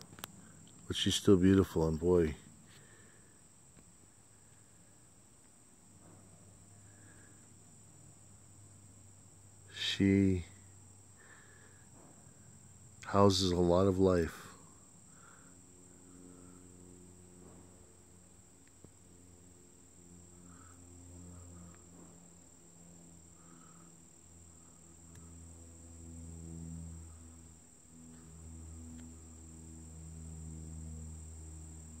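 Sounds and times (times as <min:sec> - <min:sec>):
insects trilling: 0:00.0 - 0:32.0
low droning hum: 0:00.0 - 0:32.0.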